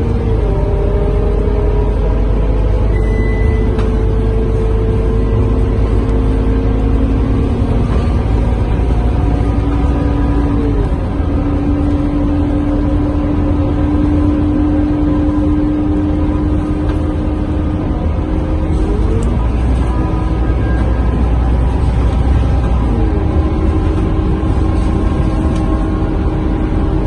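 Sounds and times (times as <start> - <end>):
bus engine low rumble: 0.0 - 27.0
bus whine: 0.0 - 27.0.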